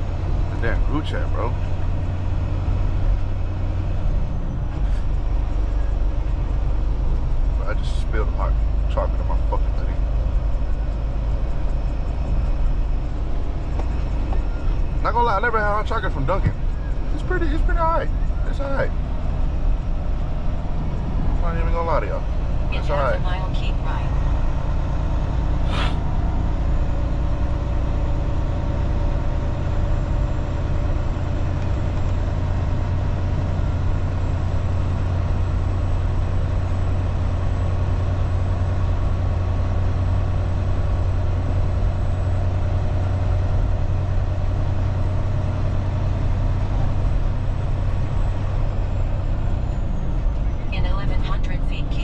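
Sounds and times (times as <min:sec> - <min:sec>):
diesel engine drone: 0:00.0 - 0:52.0
road noise: 0:00.0 - 0:52.0.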